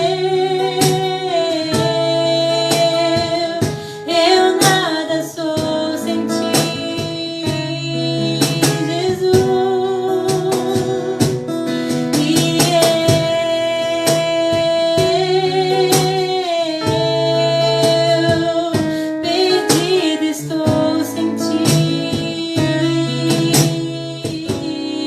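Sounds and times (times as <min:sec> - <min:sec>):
people singing: 0:00.0 - 0:11.3, 0:12.2 - 0:25.0
acoustic guitar strumming: 0:00.0 - 0:25.0.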